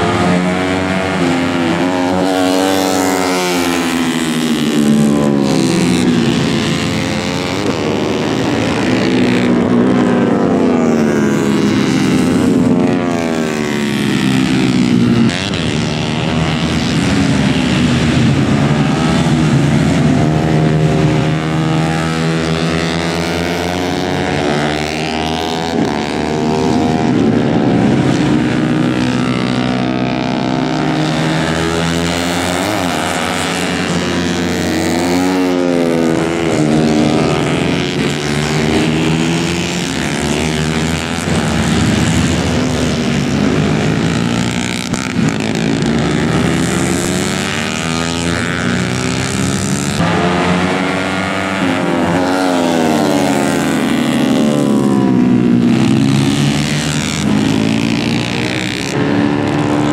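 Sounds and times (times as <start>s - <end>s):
racing motorcycles revving: 0.0s - 59.9s.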